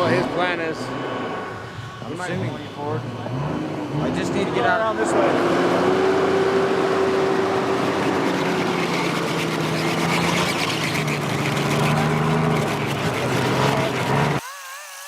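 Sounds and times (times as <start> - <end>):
truck engine running: 0.0 - 14.4
tyre and driving noise: 0.0 - 14.4.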